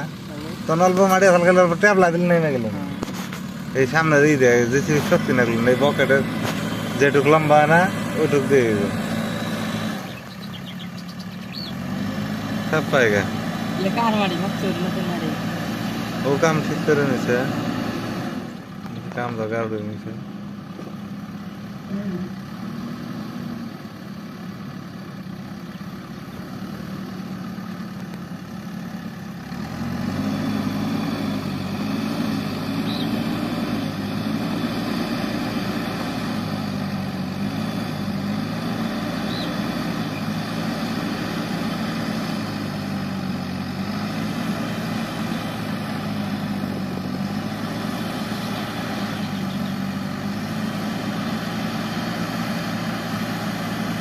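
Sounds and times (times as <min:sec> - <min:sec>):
heavy diesel engine labouring: 0:00.0 - 0:54.0.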